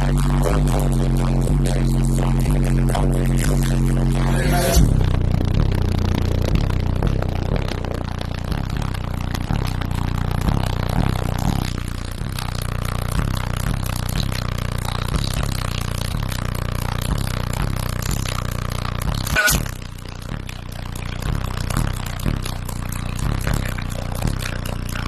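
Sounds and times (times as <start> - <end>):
bass-heavy music from car audio: 0.0 - 25.0.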